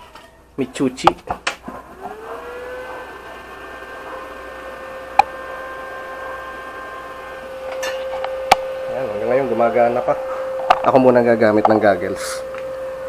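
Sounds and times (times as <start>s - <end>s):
cooling fan whine and hum: 0.0s - 13.0s.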